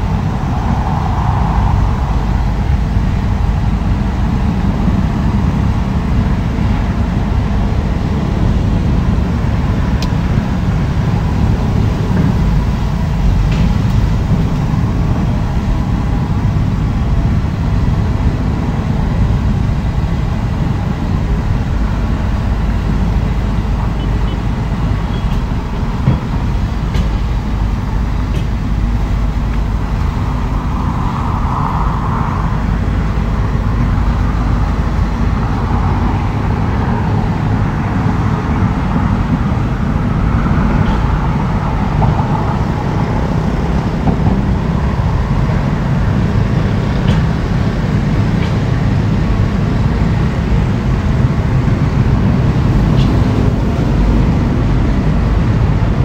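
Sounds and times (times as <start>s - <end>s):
diesel machinery rumbling: 0.0s - 56.0s.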